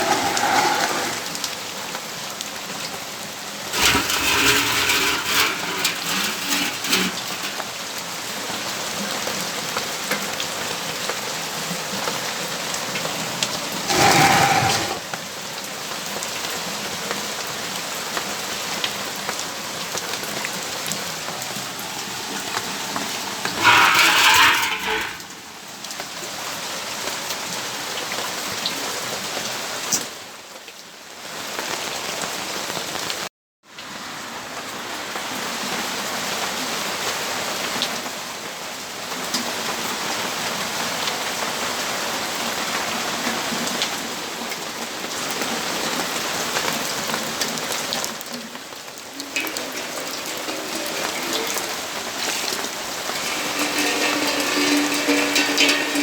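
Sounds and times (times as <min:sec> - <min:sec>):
steady rainfall: 0:00.0 - 0:25.5, 0:26.3 - 0:56.0.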